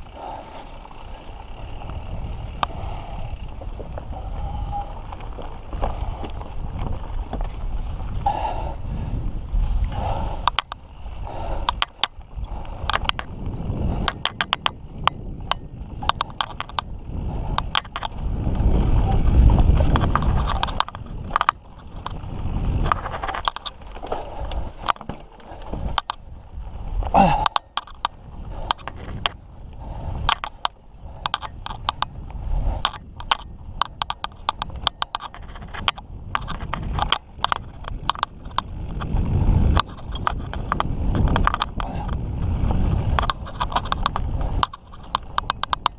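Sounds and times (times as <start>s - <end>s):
mountain bike rattling over rocks: 0.0s - 45.9s
wind rumble on microphone: 0.0s - 45.9s.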